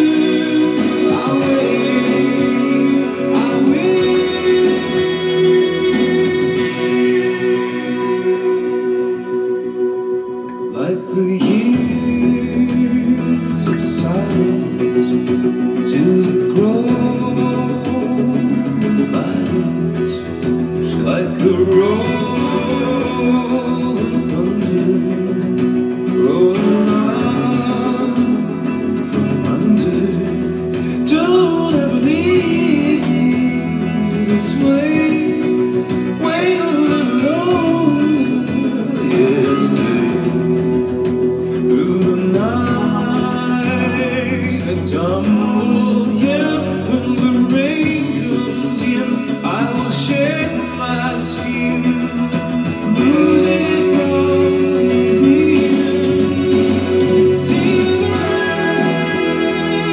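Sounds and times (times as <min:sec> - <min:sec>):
man singing: 0:00.0 - 0:59.9
synth-pop rock song: 0:00.0 - 0:59.9.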